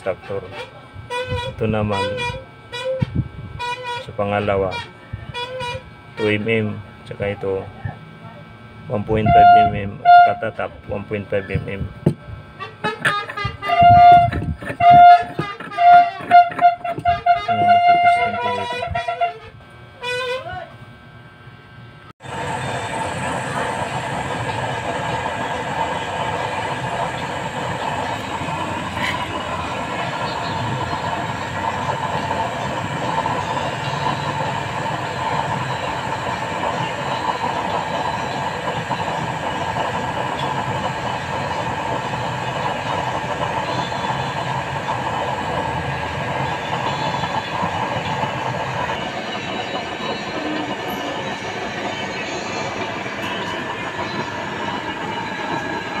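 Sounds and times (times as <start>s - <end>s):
electric blower fan: 0.0s - 46.9s.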